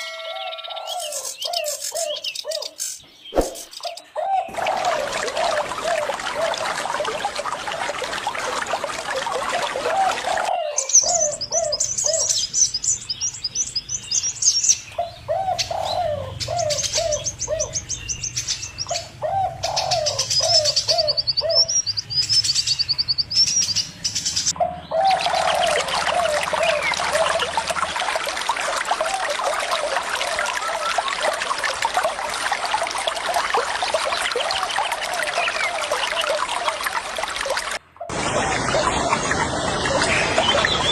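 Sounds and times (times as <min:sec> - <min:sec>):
running water: 0:04.5 - 0:21.8, 0:24.2 - 0:40.9.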